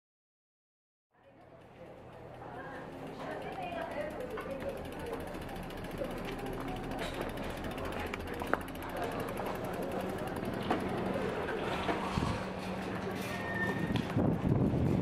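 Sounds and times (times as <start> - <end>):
bicycle freewheel ticking: 1.4 - 15.0.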